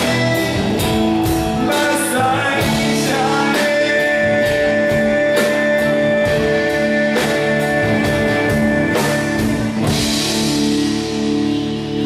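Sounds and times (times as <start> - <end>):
bass: 0.0 - 12.0
drum kit: 0.0 - 12.0
held lead guitar notes: 0.0 - 12.0.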